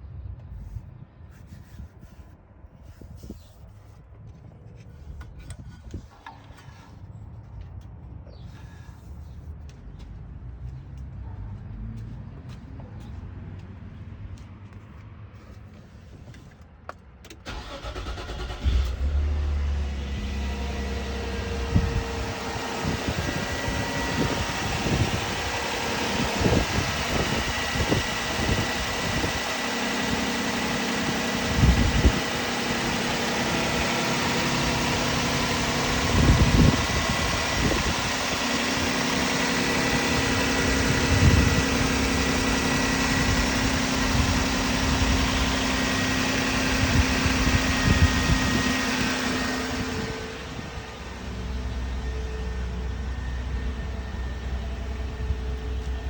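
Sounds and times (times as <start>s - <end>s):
car engine cranking and idling: 1.4s - 13.6s, 15.4s - 56.0s.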